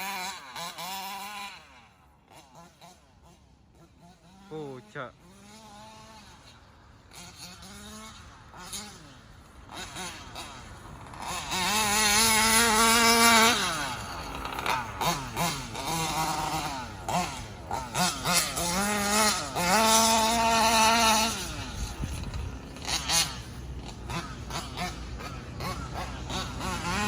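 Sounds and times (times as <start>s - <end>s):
two-stroke engine revving: 0.0s - 27.0s.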